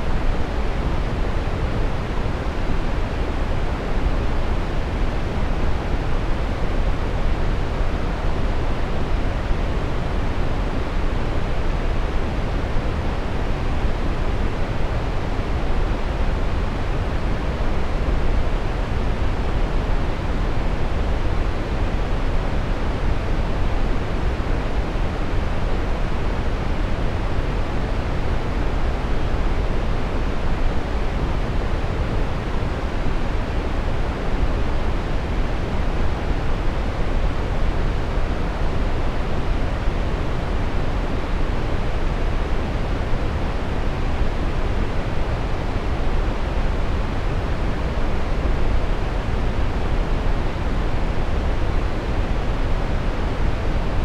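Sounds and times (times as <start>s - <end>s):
brown noise: 0.0s - 54.0s.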